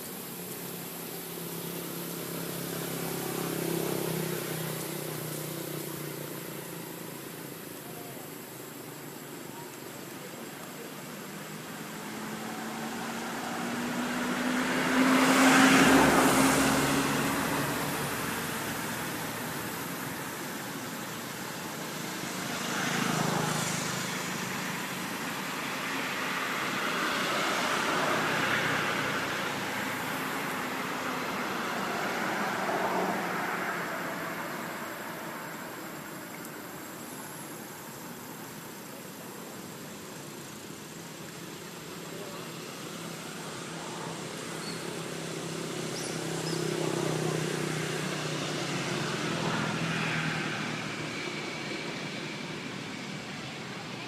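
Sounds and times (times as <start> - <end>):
road vehicles passing: 0.0 - 54.0.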